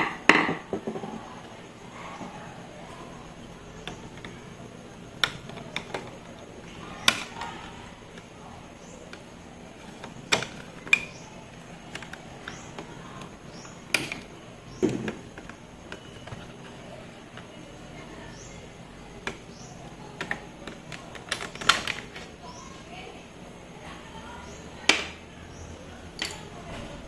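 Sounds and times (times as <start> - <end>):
hard objects clicking and knocking: 0.0 - 1.6, 3.4 - 22.5, 24.8 - 25.3, 26.1 - 27.0
low steady background hum: 0.0 - 27.0.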